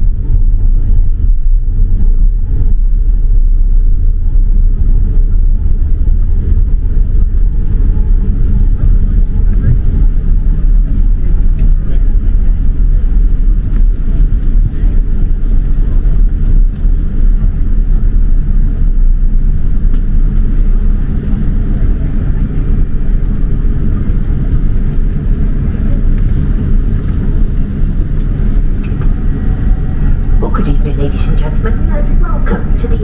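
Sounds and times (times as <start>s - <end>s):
airplane taxiing rumble: 0.0s - 33.0s.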